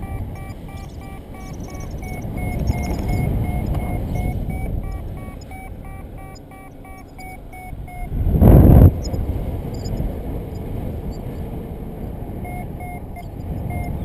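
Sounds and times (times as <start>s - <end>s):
variometer beeping rapidly: 0.0s - 11.6s, 12.3s - 14.0s
steady wind noise: 0.0s - 14.0s
wind gust hitting microphone: 0.0s - 14.0s.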